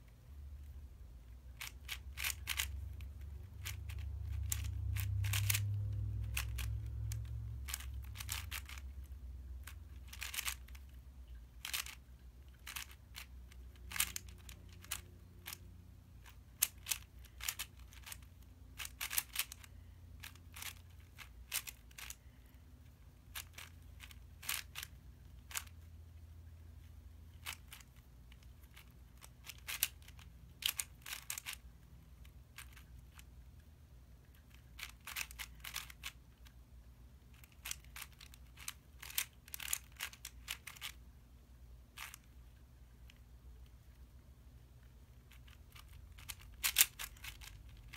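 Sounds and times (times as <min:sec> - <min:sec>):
plastic puzzle cube clicking: 0:01.5 - 0:25.9, 0:26.8 - 0:33.3, 0:34.2 - 0:36.6, 0:37.3 - 0:41.0, 0:41.9 - 0:44.0, 0:45.1 - 0:47.9.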